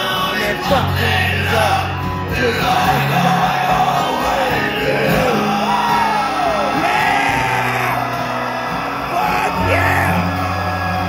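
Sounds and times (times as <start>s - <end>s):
voices singing and yelling: 0.0s - 11.0s.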